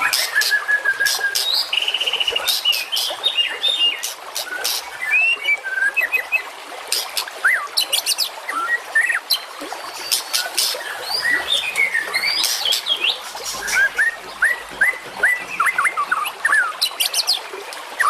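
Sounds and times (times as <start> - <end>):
bird song with clicks and whistles: 0.0 - 6.3, 6.9 - 17.4.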